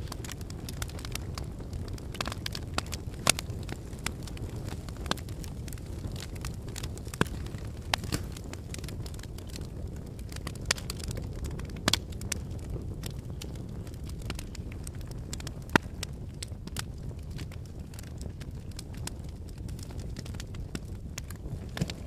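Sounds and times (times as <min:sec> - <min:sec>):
low rumble of flame: 0:00.0 - 0:22.0
sharp snaps and pops: 0:00.0 - 0:22.0
wood fire crackling: 0:00.0 - 0:22.0.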